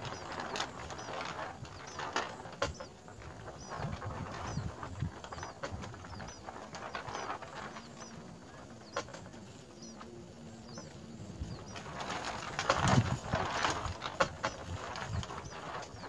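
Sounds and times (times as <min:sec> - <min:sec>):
loud rustling: 0:00.0 - 0:16.0
small birds chirping: 0:00.0 - 0:16.0.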